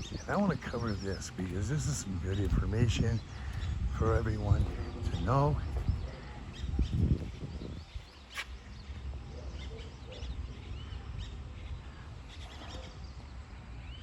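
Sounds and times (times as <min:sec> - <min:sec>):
low outdoor rumble: 0:00.0 - 0:14.0
small birds chirping: 0:00.0 - 0:14.0.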